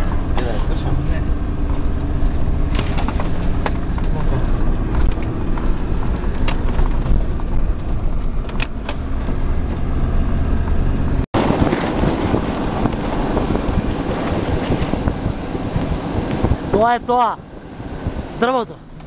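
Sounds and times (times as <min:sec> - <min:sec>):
rushing noise: 0:00.0 - 0:18.6
vehicle engine under load: 0:00.0 - 0:19.0.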